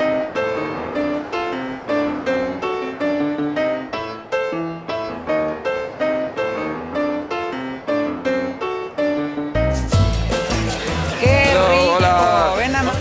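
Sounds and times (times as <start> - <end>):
lively solo piano tune: 0.0 - 13.0.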